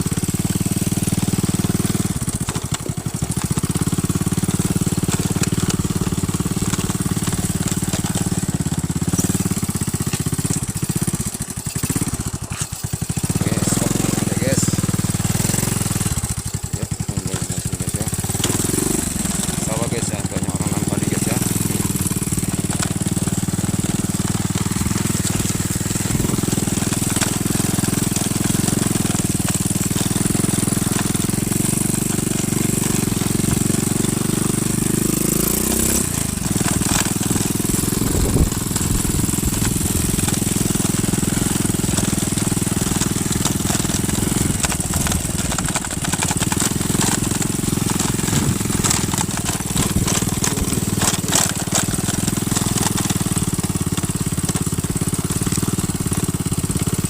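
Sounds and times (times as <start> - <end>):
small motorcycle engine running: 0.0 - 57.0.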